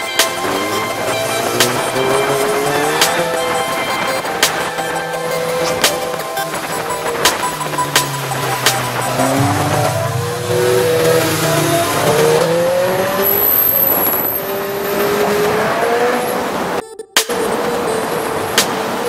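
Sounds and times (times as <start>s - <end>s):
motorcycle engines revving: 0.0s - 19.0s
wind noise: 0.8s - 19.0s.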